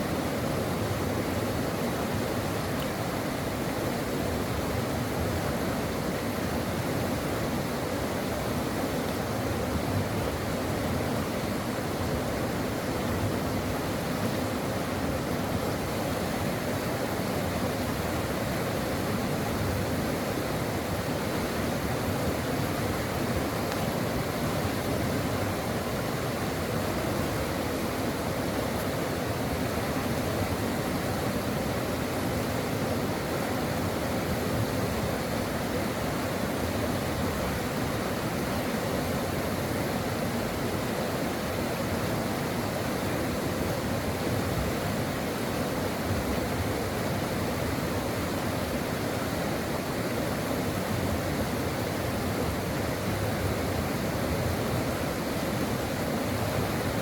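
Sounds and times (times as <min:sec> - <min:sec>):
water flowing over rocks: 0:00.0 - 0:57.0.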